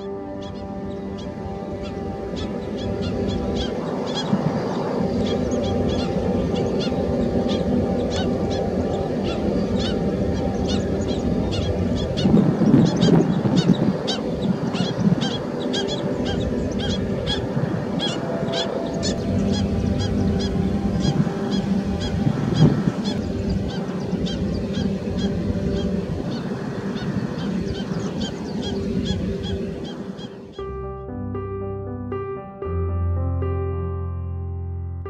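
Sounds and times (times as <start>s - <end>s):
waterbirds honking: 0.0s - 30.7s.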